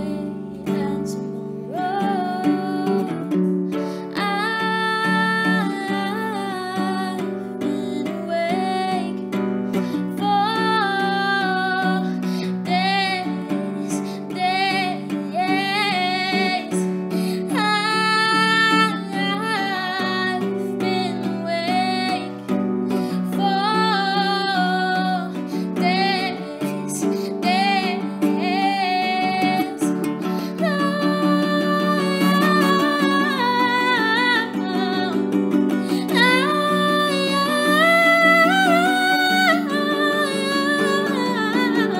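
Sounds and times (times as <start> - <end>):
strummed acoustic guitar: 0.0 - 41.9
woman singing: 0.0 - 41.9.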